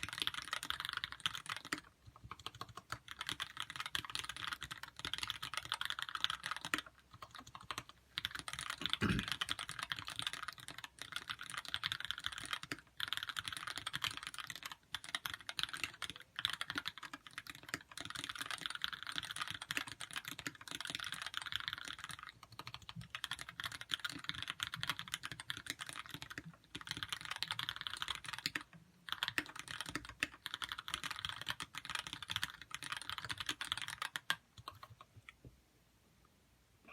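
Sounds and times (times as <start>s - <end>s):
mechanical keyboard typing: 0.0s - 35.3s.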